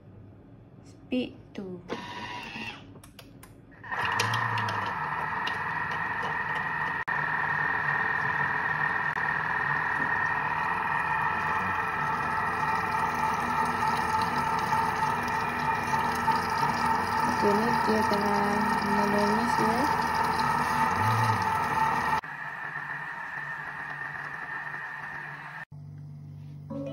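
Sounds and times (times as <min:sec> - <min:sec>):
food processor blade running: 0:03.8 - 0:25.7.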